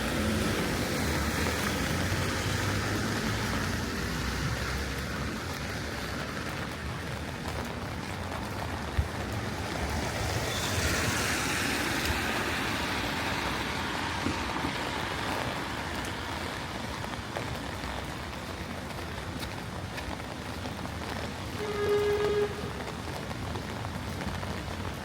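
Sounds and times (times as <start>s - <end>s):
steady rain: 0.0s - 25.0s
tyres hissing on wet road: 0.0s - 25.0s.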